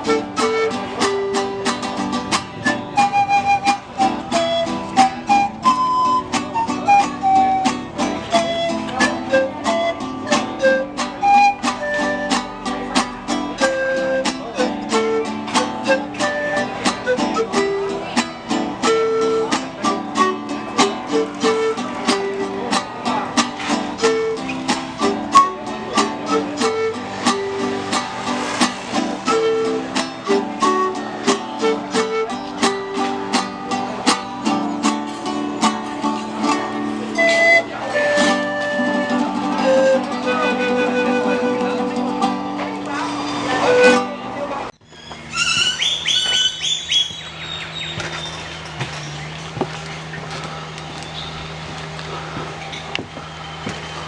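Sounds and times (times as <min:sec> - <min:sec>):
guitars strumming a tune: 0:00.0 - 0:54.0.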